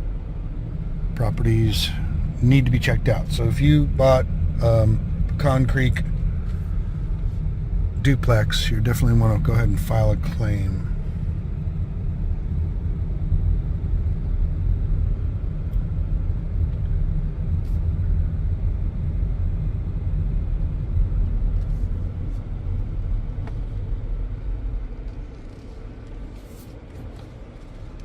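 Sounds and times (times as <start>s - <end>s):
car cabin rumble: 0.0s - 28.0s.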